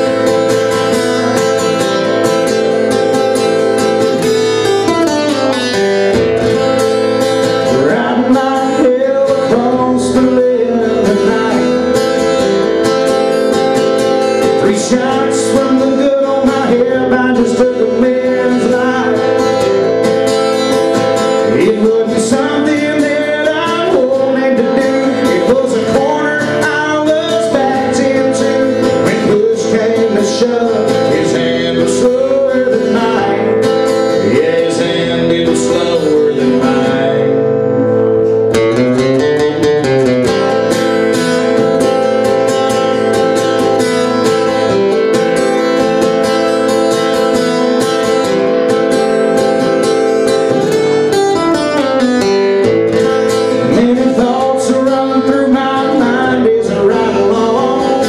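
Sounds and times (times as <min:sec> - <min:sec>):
man singing country song: 0:00.0 - 0:58.0
strummed acoustic guitar: 0:00.0 - 0:58.0.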